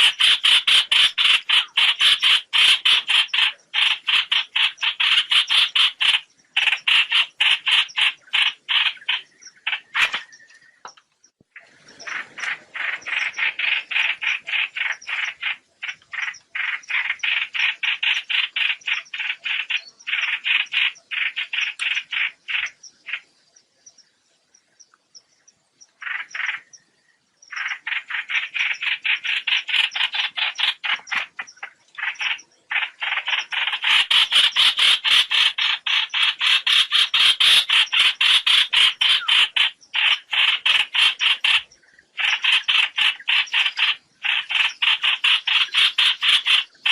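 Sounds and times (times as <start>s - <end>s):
rapid sharp bird calls: 0.0s - 24.0s, 25.9s - 46.9s.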